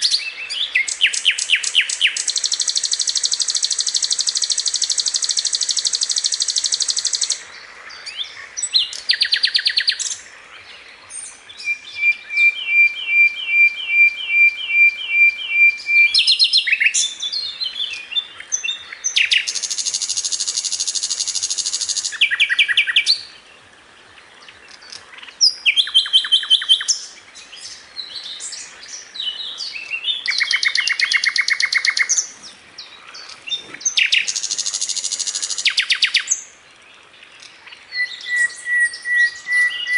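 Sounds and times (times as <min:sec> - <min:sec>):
bird chirping and trilling: 0:00.0 - 0:07.4, 0:11.1 - 0:23.3, 0:24.7 - 0:36.5, 0:37.4 - 0:39.9.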